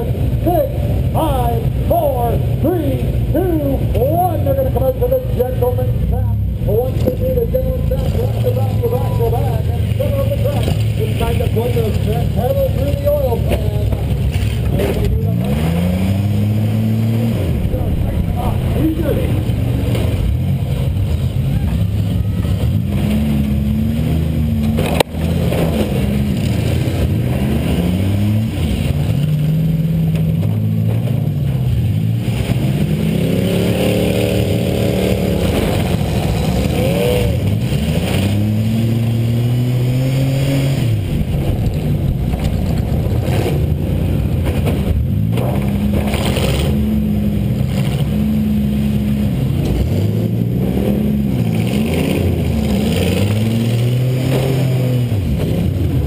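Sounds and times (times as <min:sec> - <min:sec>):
car engine revving hard: 0:06.7 - 0:56.0.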